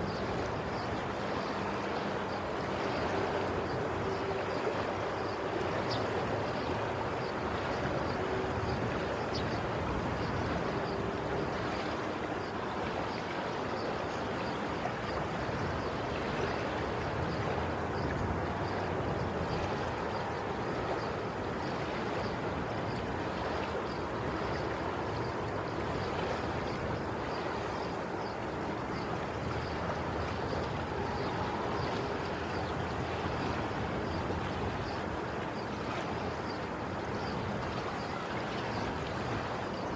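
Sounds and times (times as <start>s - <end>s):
faint ticks and splashes: 0.0s - 39.9s
sea waves washing on shore: 0.0s - 39.9s.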